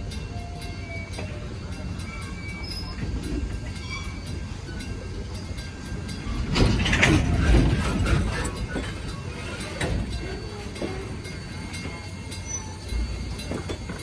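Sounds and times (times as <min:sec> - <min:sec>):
train rumbling with wheel clatter: 0:00.0 - 0:14.0.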